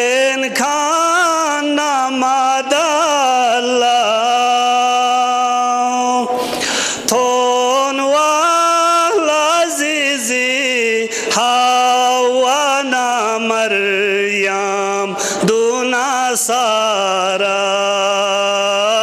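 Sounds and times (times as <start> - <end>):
solo voice chanting: 0.0 - 19.0.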